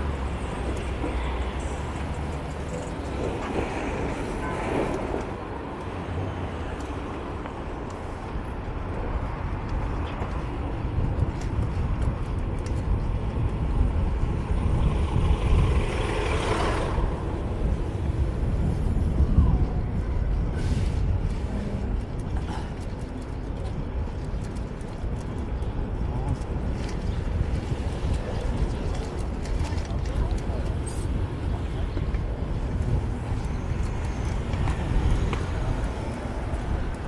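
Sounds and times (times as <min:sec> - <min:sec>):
street traffic: 0:00.0 - 0:37.0
wind on camera microphone: 0:00.0 - 0:37.0.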